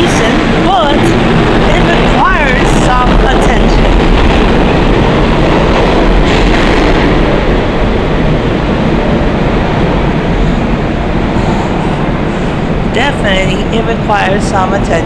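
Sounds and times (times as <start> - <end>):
subway train rail noise: 0.0 - 15.0.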